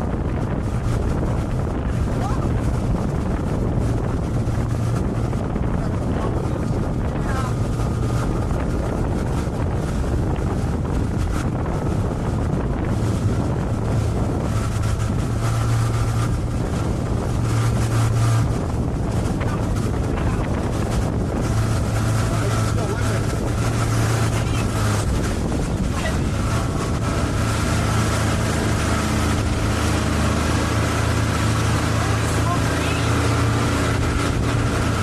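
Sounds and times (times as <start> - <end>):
motorboat engine droning: 0.0 - 35.0
wind buffeting microphone: 0.0 - 35.0.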